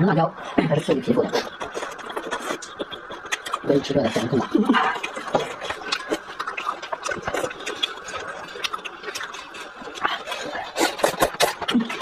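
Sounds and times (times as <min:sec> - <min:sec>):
chewing with crunches: 0:00.0 - 0:12.0
wet mouth clicks: 0:01.2 - 0:12.0.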